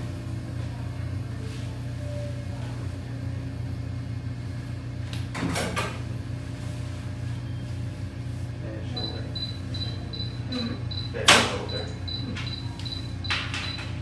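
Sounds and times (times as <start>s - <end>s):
low hum of equipment: 0.0s - 14.0s.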